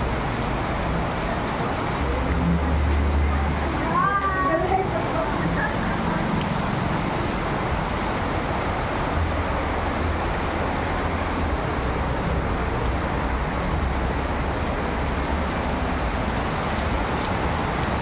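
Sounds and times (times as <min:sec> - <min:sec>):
heavy rain on street: 0:00.0 - 0:18.0
low rumble of traffic: 0:00.0 - 0:18.0.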